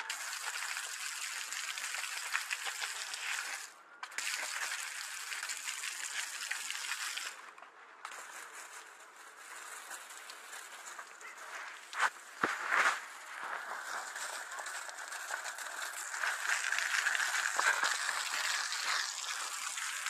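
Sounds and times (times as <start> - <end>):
garden hose spraying water: 0.0 - 20.0.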